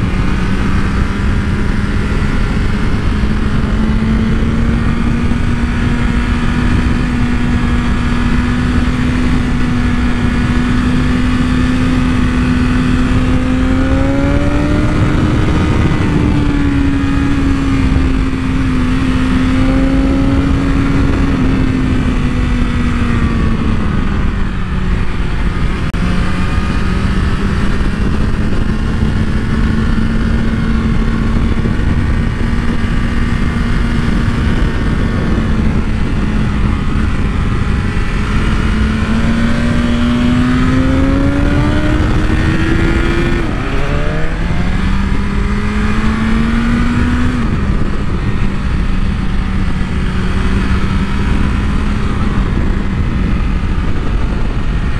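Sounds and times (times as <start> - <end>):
motorcycle engine cruising: 0.0 - 54.9
wind rush on microphone: 0.0 - 54.9.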